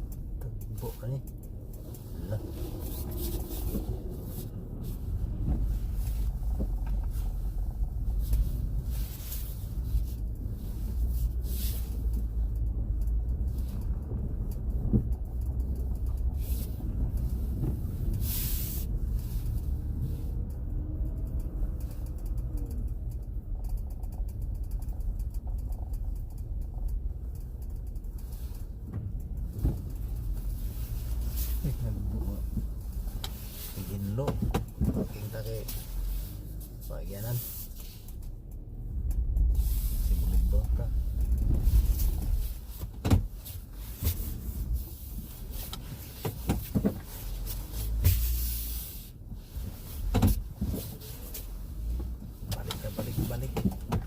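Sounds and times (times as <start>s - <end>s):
light clicks and knocks: 0.0s - 18.2s, 19.0s - 48.5s, 49.7s - 54.0s
car engine and tyres rumbling: 0.0s - 54.0s.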